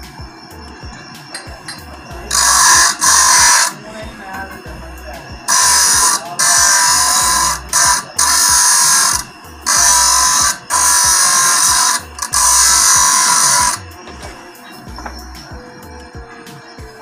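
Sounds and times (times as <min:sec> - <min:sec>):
low motor hum: 0:00.0 - 0:17.0
metal grinding on abrasive wheel: 0:00.0 - 0:17.0.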